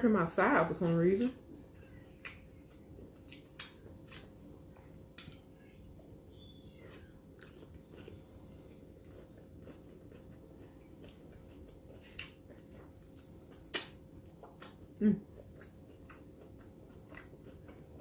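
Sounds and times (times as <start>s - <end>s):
chewing crunchy taco: 1.5s - 18.0s.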